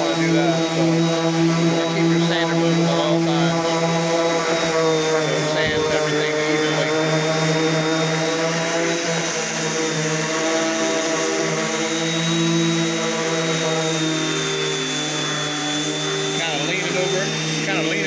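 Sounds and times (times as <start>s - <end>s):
orbit sander motor whine: 0.0s - 18.0s.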